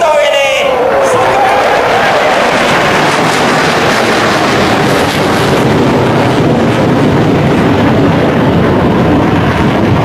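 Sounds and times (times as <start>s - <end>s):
fighter jets flying overhead: 0.0s - 10.0s.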